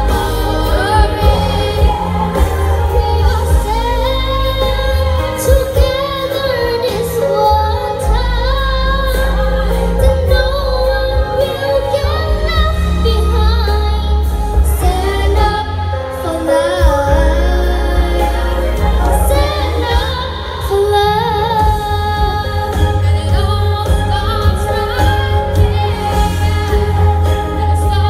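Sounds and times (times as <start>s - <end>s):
music with heavy bass: 0.0s - 28.0s
woman singing: 0.0s - 28.0s.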